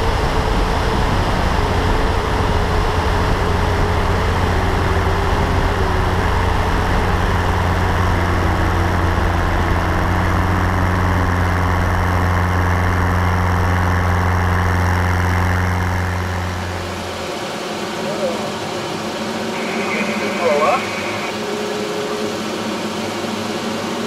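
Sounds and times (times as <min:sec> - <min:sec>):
aircraft engine and propeller drone: 0:00.0 - 0:24.0.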